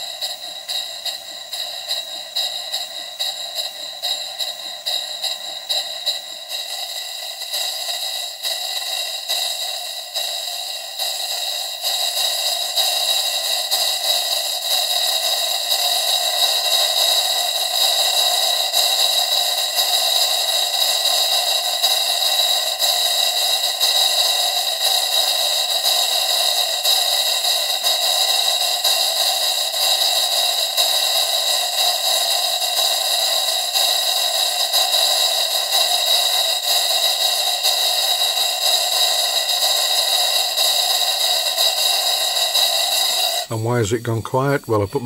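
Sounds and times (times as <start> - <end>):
steam engine exhaust chuffs: 0.0 - 45.0.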